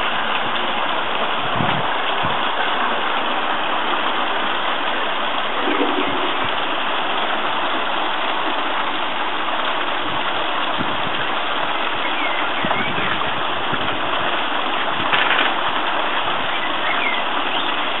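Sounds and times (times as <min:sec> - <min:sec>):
pond waterfall splashing: 0:00.0 - 0:18.0.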